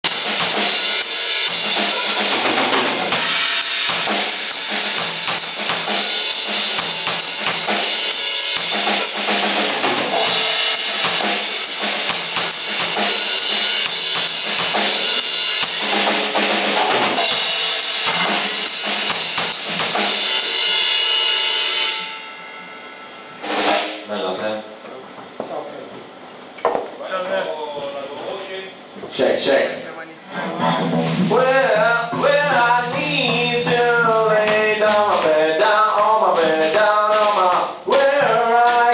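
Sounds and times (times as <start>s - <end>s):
drum kit beat: 0.0s - 24.1s, 30.6s - 38.9s.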